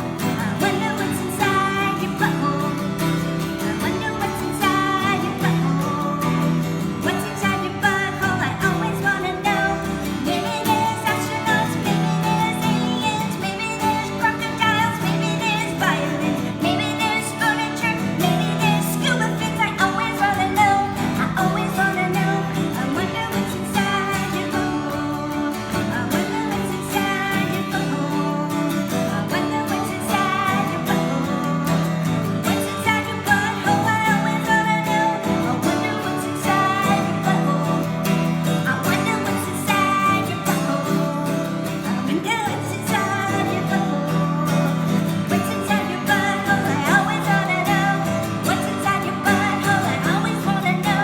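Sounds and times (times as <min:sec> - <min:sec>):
acoustic guitar: 0:00.0 - 0:51.0
woman singing a pop song: 0:00.0 - 0:51.0.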